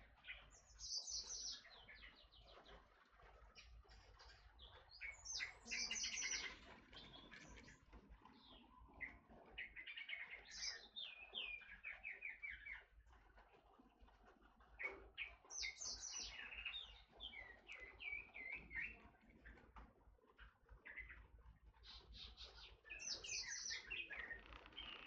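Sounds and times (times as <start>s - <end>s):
bird chirps and trills: 0.1s - 13.1s, 14.7s - 19.6s, 20.4s - 25.0s.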